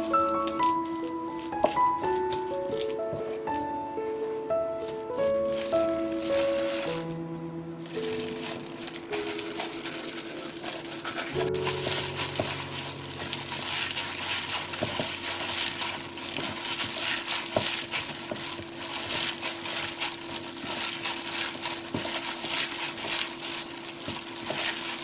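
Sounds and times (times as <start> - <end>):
wet rustling mixing by hand: 0.0 - 25.0.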